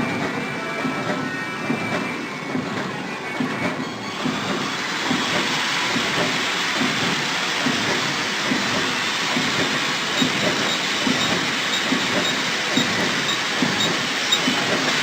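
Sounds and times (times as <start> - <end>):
bag-making machine running: 0.0 - 15.0.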